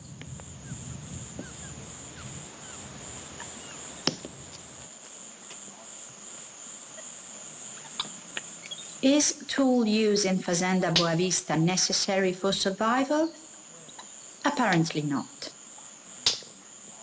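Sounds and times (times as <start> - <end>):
insects droning: 0.0 - 17.0
short insect chirps: 0.0 - 17.0.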